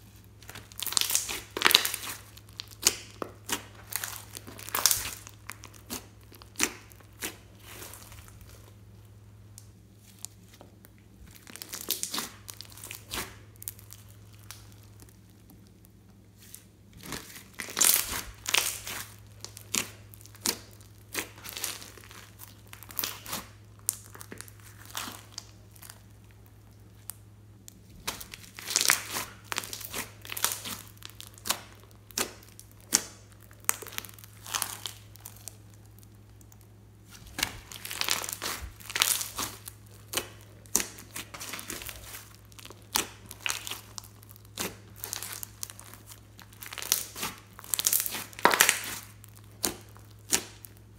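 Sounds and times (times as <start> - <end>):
sticky slime crackling and popping: 0.0 - 50.9.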